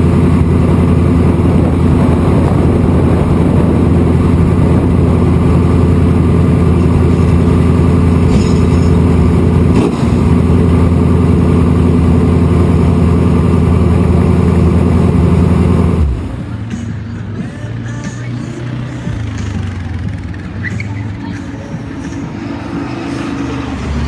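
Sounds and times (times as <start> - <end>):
race car engine running hard: 0.0 - 24.0.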